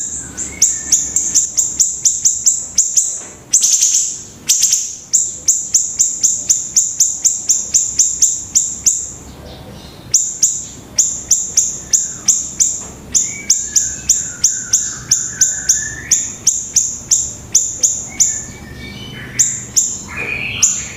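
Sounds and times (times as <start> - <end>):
bird singing sharp high notes: 0.0 - 9.2, 10.0 - 20.9.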